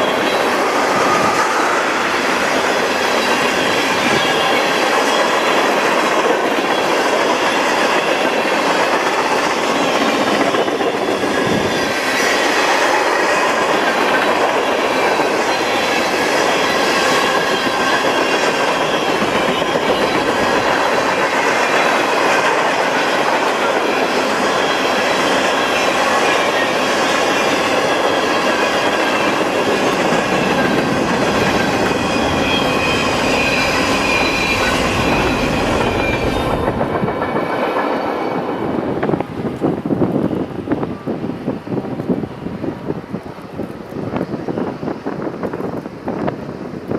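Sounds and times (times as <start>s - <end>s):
high wheel squeals: 0.0s - 5.8s, 6.6s - 38.8s
steel wheels clattering on rail: 0.0s - 40.9s.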